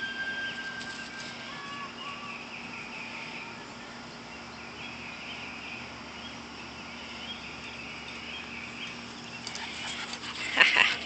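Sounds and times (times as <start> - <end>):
bird chirping: 0.0 - 10.6
steady low hum: 0.0 - 11.0.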